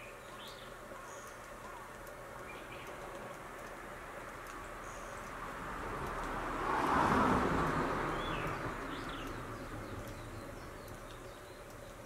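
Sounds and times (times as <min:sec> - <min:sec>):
woodpecker tapping on bark: 0:00.0 - 0:12.0.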